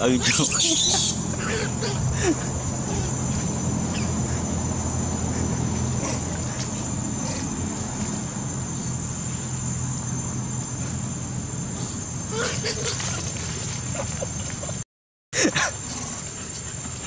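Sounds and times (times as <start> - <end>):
insects droning: 0.0 - 14.8, 15.4 - 17.0
low steady hum: 0.0 - 14.8.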